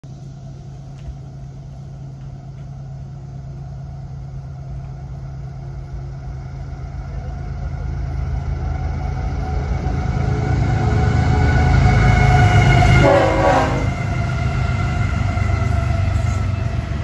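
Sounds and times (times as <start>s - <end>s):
diesel locomotive engine hum: 0.0s - 17.0s.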